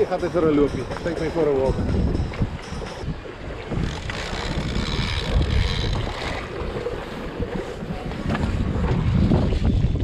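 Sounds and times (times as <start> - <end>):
water sloshing against hull: 0.0 - 10.0
wind buffeting microphone: 0.0 - 10.0.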